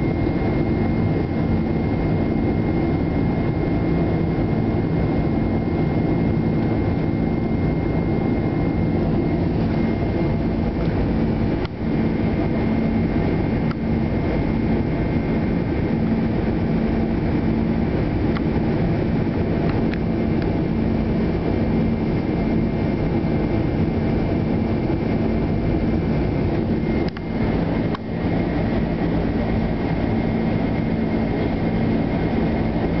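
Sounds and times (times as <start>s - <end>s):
constant low hum: 0.0s - 33.0s
jet engine cabin noise: 0.0s - 33.0s.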